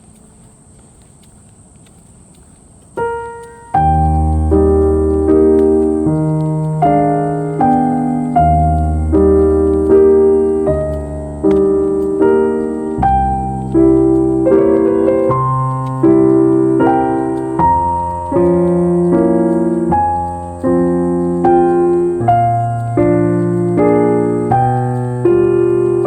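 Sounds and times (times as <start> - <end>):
slow piano chords: 2.8 - 26.0.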